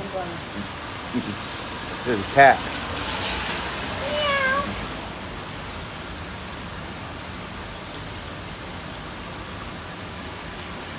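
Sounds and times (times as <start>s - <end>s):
rain pattering: 0.0s - 10.9s.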